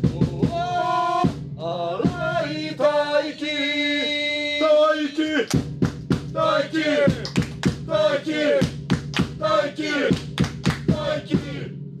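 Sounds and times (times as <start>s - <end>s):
sharp drum beats: 0.0s - 3.2s, 5.4s - 12.0s.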